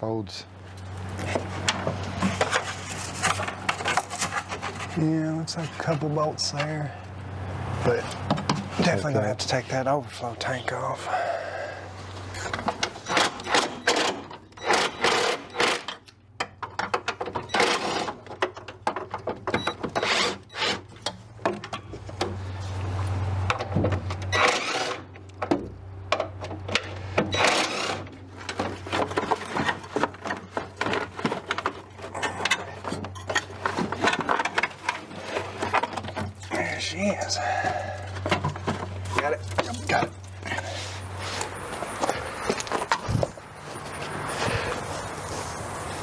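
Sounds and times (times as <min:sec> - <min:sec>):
hand tools clicking and clattering: 0:00.5 - 0:46.0.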